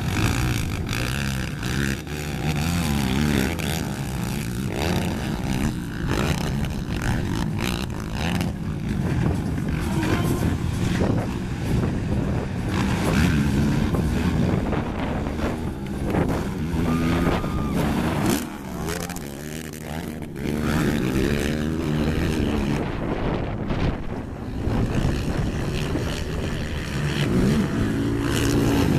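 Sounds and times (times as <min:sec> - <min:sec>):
quad engines revving: 0:00.0 - 0:28.9.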